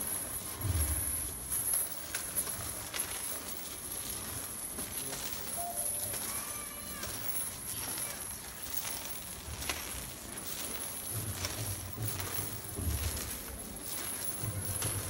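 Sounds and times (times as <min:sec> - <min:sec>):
chains dragged over cobblestones: 0:00.0 - 0:15.0.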